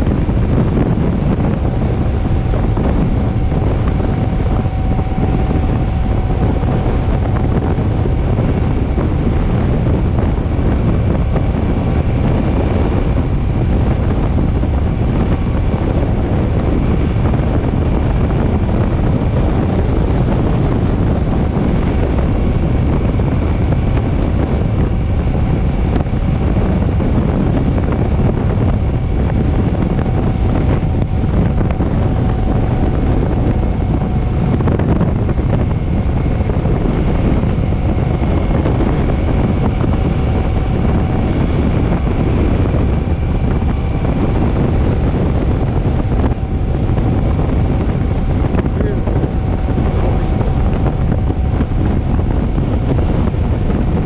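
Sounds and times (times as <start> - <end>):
faint steady whine: 0.0 - 54.0
wind rumble on microphone: 0.0 - 54.0.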